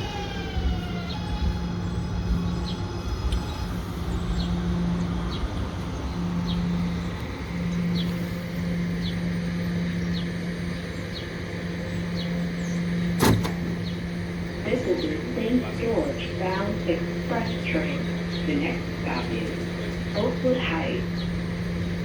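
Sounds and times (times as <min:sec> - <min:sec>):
train electric hum: 0:00.0 - 0:22.0.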